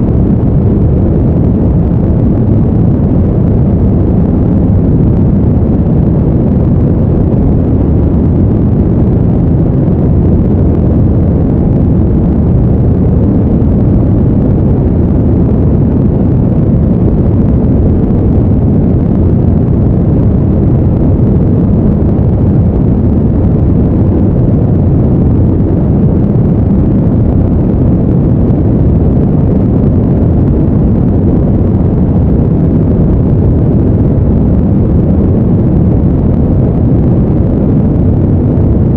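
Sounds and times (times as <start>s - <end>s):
deep brown noise rumble: 0.0s - 38.9s.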